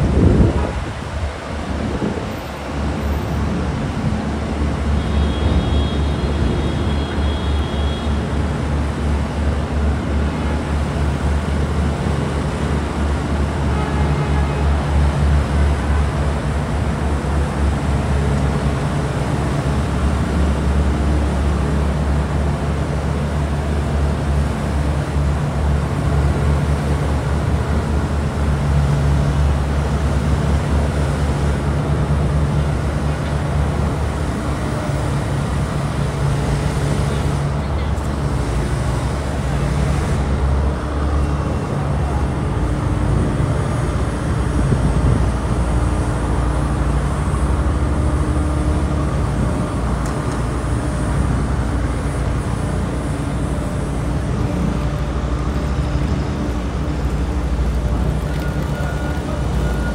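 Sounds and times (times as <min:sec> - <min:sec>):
passing cars and buses: 0:00.0 - 0:59.9.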